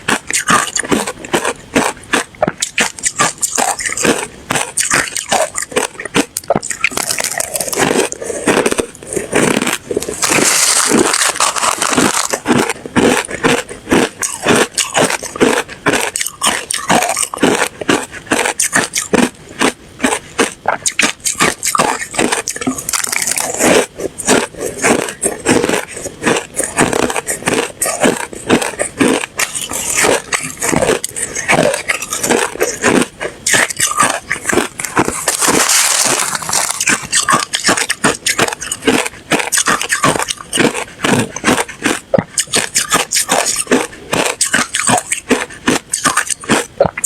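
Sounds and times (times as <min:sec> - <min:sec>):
ice crunching being chewed: 0:00.0 - 0:47.0.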